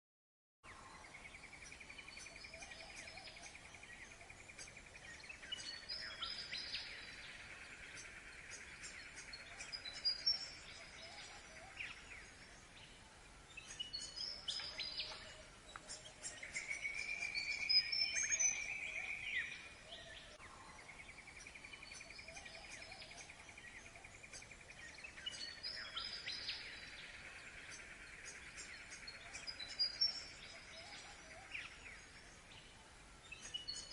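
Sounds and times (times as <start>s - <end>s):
birds calling: 0.7s - 33.9s.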